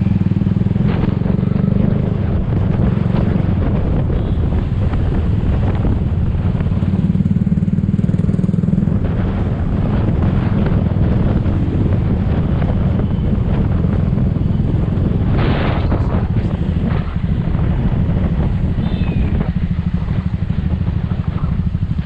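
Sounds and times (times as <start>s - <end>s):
noisy rush: 0.0s - 22.0s
scooter engine: 0.0s - 22.0s
wind buffeting microphone: 0.0s - 22.0s.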